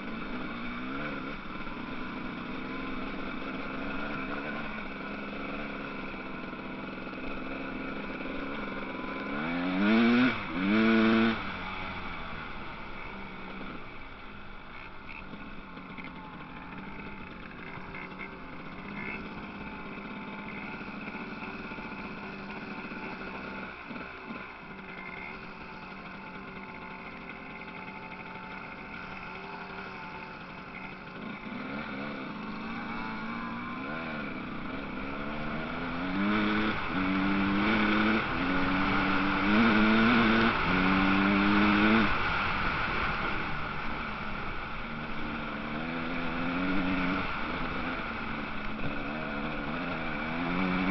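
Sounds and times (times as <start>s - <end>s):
motocross bike engines whining: 0.0s - 50.9s
motorbike revving through gears: 0.0s - 50.9s.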